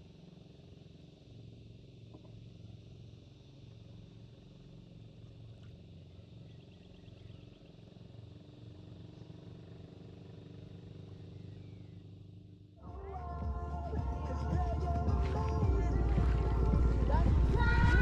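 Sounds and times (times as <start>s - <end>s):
engine idling hum: 0.0s - 18.0s.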